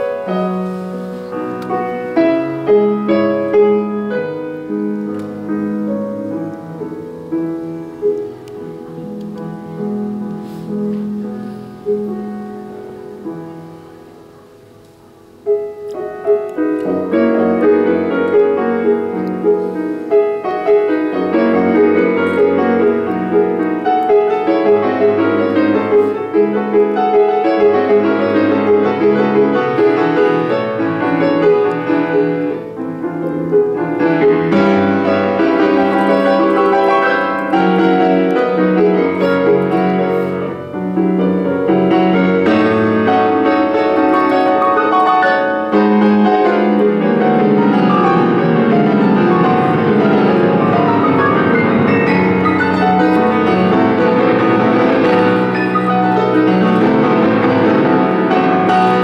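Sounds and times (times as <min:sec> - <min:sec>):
grand piano playing: 0:00.0 - 0:59.0.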